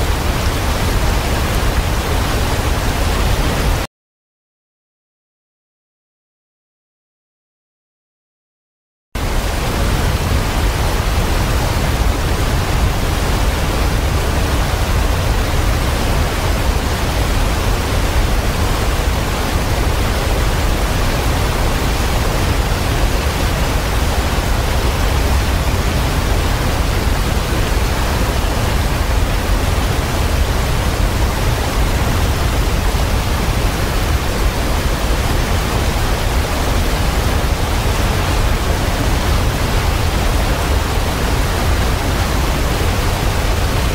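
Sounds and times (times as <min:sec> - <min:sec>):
waterfall rushing: 0:00.0 - 0:03.9, 0:09.2 - 0:43.9.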